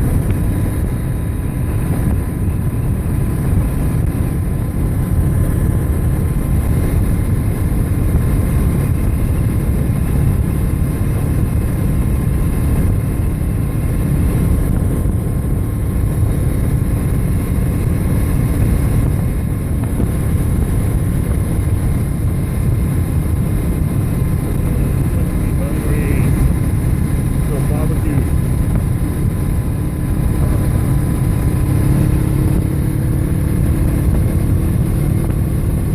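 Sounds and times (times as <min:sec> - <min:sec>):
motorcycle engine: 0:00.0 - 0:35.9
road noise: 0:00.0 - 0:35.9
wind buffeting microphone: 0:00.0 - 0:35.9.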